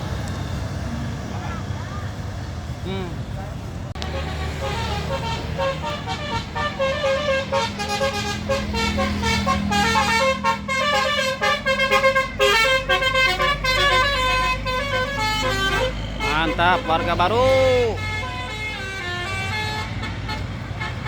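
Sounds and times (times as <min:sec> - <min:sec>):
bus engine running: 0:00.0 - 0:21.0
multi-tone bus horn tune: 0:04.0 - 0:21.0.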